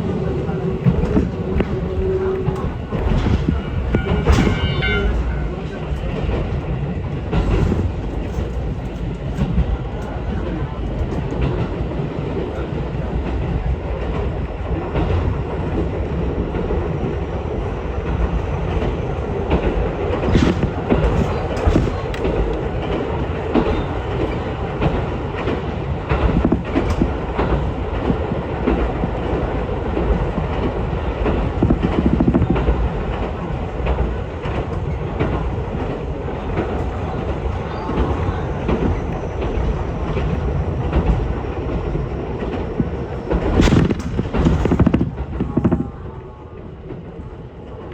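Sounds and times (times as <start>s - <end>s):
clacks over rail joints: 0.0s - 47.9s
train wheels rumbling on rail: 0.0s - 47.9s.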